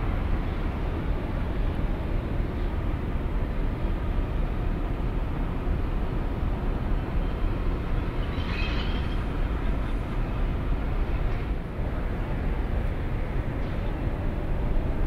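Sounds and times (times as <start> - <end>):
ferry engines rumbling: 0.0 - 15.0.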